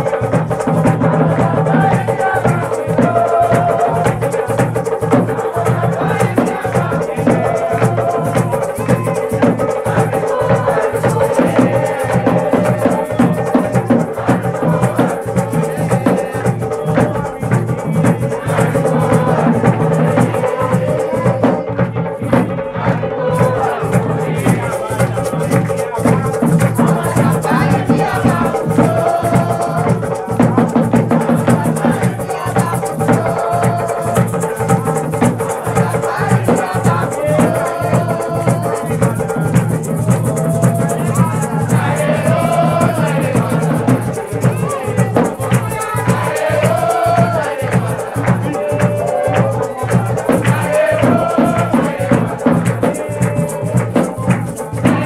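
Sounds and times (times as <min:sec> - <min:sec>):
shaker rattle: 0:00.0 - 0:22.4, 0:23.2 - 0:55.0
rapid drumming and percussion: 0:00.0 - 0:55.0.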